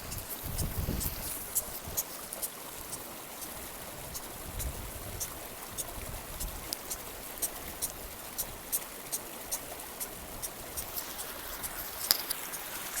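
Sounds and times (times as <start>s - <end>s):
mountain river rushing: 0.0s - 13.0s.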